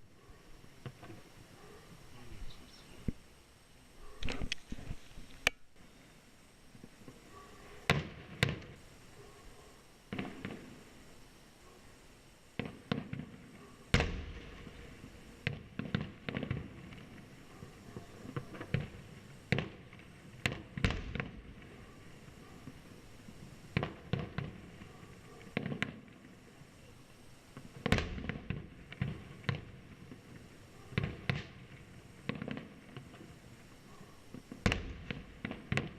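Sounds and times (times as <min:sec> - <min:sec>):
fireworks exploding: 0:00.5 - 0:03.2, 0:06.7 - 0:09.2, 0:10.0 - 0:11.2, 0:12.5 - 0:35.9.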